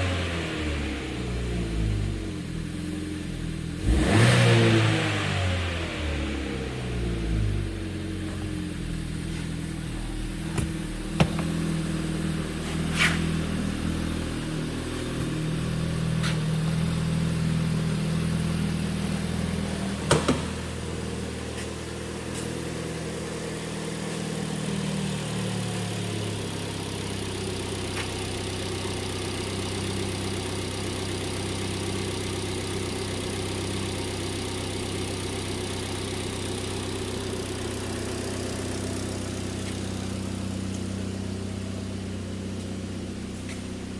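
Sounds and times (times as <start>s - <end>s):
car engine idling: 0.0s - 4.5s, 5.2s - 43.9s.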